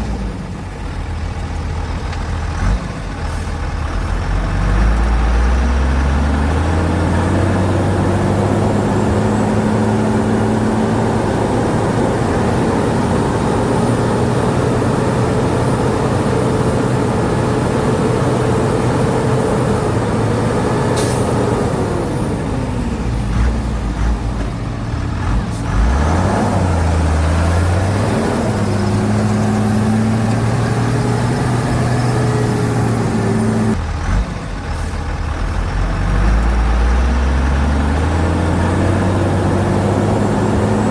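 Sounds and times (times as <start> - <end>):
heavy diesel engine revving: 0.0 - 40.9.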